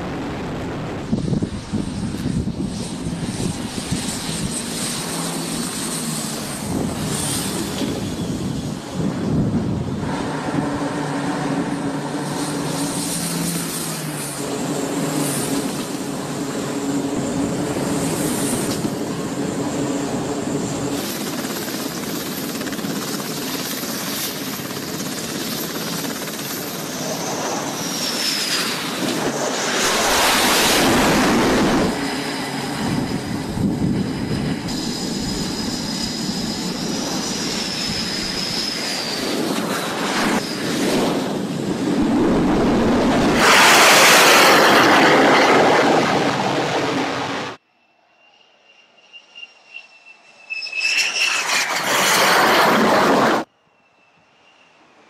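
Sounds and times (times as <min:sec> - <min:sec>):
jet engines roaring: 0:00.0 - 0:55.0
turboprop engines droning: 0:00.0 - 0:55.0.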